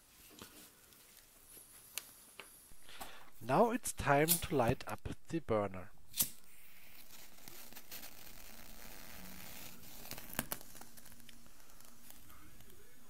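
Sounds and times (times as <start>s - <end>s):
faint burner hiss: 0.0s - 13.0s.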